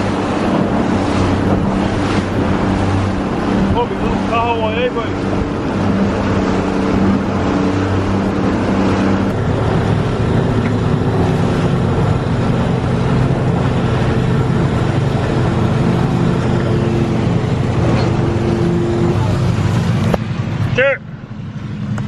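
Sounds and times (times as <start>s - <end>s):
hiss of wind and water: 0.0s - 22.0s
small boat motor running: 0.0s - 22.0s.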